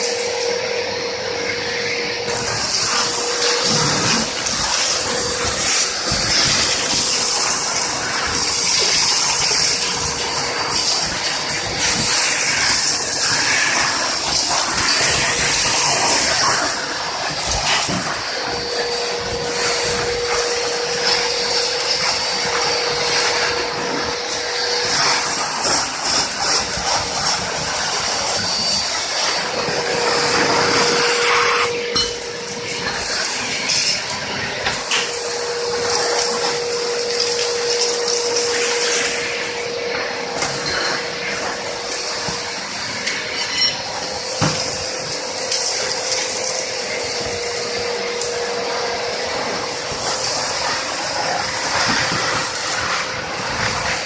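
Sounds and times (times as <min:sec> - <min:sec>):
industrial vacuum cleaner suction: 0:00.0 - 0:54.0.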